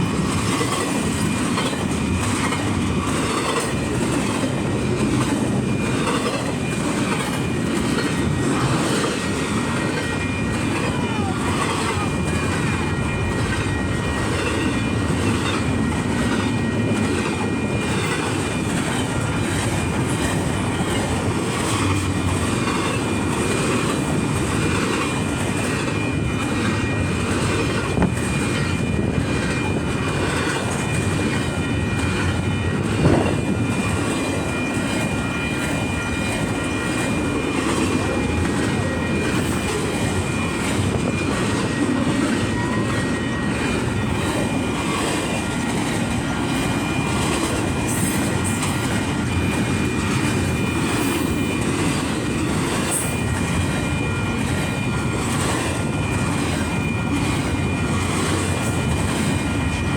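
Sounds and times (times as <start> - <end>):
train cars rumbling and rattling: 0.0 - 59.9.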